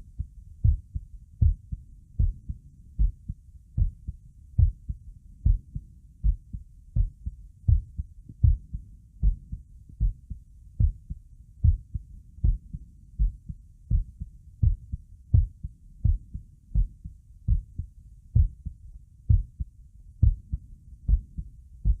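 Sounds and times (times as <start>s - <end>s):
heartbeat thumps: 0.0s - 22.0s.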